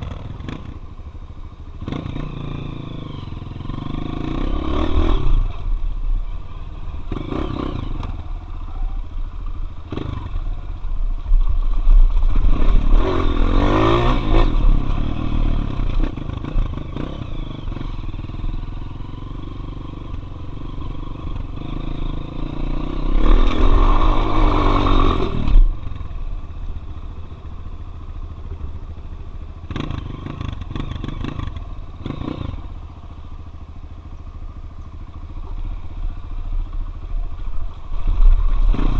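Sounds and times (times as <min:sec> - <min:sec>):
motorcycle engine accelerating: 0:00.0 - 0:01.0, 0:01.7 - 0:38.9.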